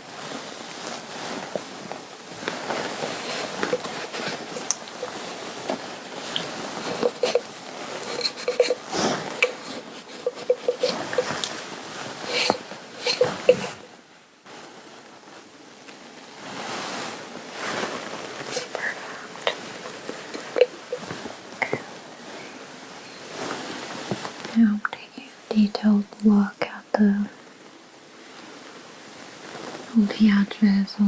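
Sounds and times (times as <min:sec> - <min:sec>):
fabric rustling under hands: 0:00.0 - 0:30.0.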